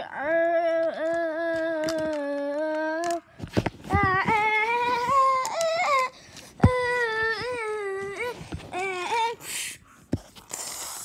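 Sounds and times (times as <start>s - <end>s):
child humming: 0.0s - 3.3s, 3.9s - 9.8s.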